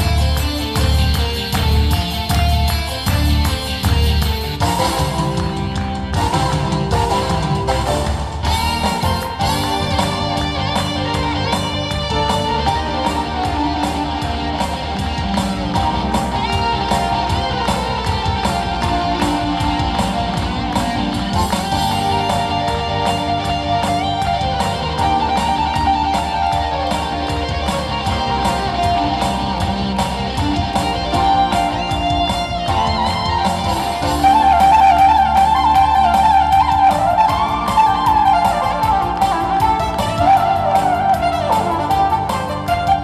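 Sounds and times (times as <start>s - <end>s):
electronic organ melody: 0.0s - 43.0s.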